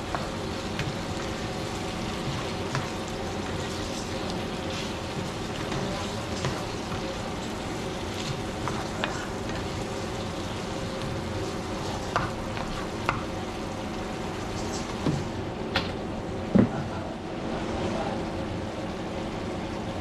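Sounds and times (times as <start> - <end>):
onions sizzling in a frying pan: 0.0 - 20.0.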